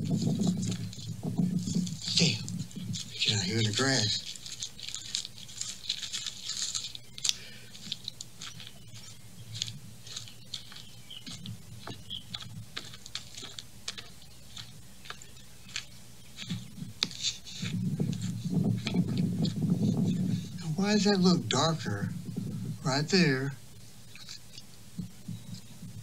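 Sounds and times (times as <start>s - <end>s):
faint low hum: 0.0s - 26.0s
footsteps on grass and gravel: 0.0s - 26.0s.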